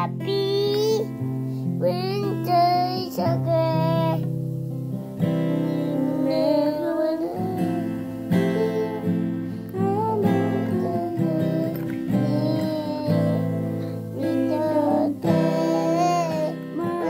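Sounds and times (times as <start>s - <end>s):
toddler singing: 0.0s - 4.3s, 5.2s - 17.0s
acoustic guitar strumming: 0.0s - 17.0s.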